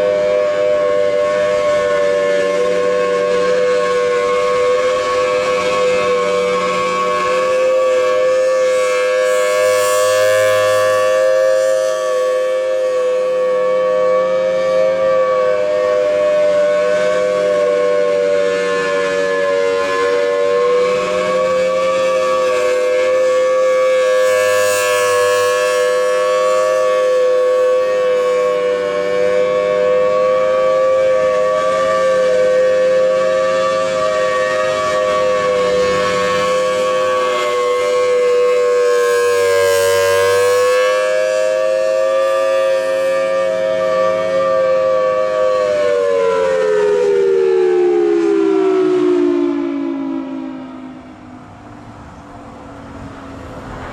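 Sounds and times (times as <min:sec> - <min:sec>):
rotating dual-tone warning siren: 0:00.0 - 0:53.9.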